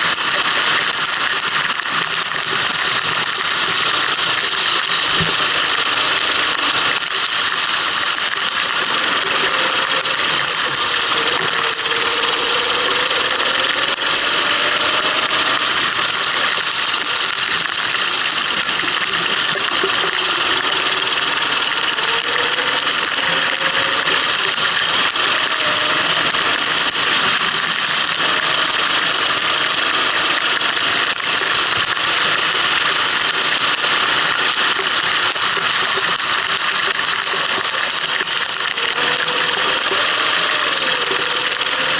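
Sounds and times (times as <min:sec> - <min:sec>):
kart engine running: 0:00.0 - 0:41.9.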